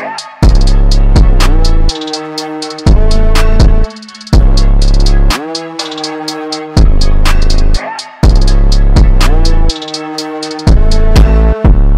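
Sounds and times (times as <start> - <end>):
electronic music with heavy bass: 0.0 - 11.9.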